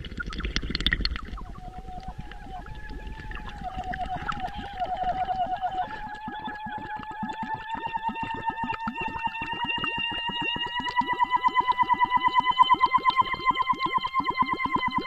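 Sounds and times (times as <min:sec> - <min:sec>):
bubbling air in water: 0:00.0 - 0:15.0
woman singing underwater: 0:01.2 - 0:15.0.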